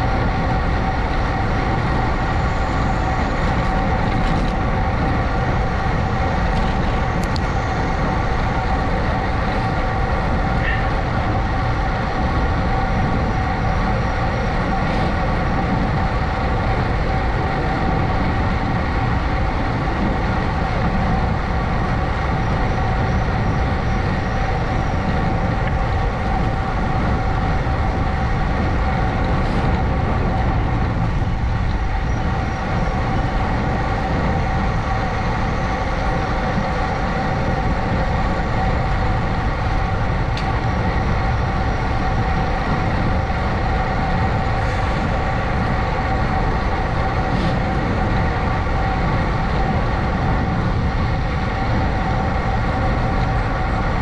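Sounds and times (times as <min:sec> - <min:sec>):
vehicle running steadily: 0:00.0 - 0:54.0.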